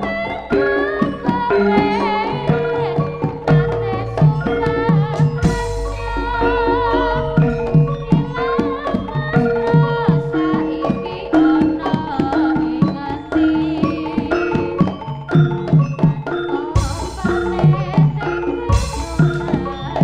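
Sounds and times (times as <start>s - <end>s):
hand-drum strokes: 0.0s - 20.0s
wavering sustained melody: 0.8s - 20.0s.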